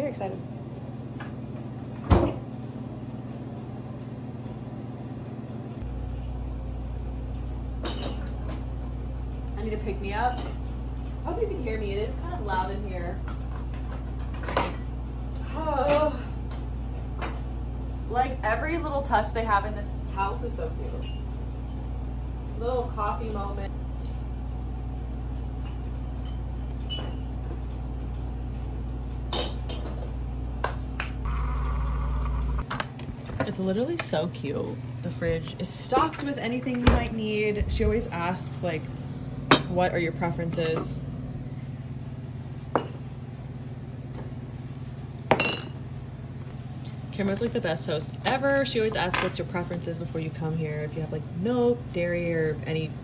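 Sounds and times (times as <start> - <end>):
air conditioner humming: 0.0 - 53.0.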